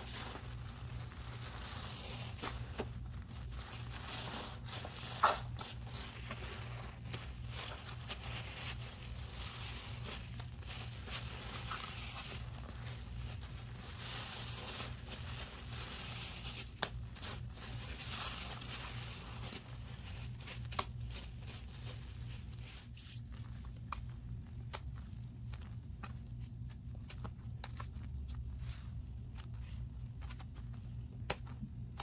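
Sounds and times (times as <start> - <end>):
hands mixing foam: 0.0 - 32.0.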